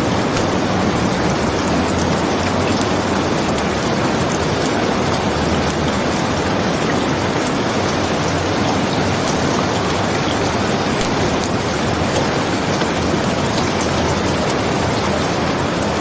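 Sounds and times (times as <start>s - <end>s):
heavy rainfall: 0.0s - 16.0s.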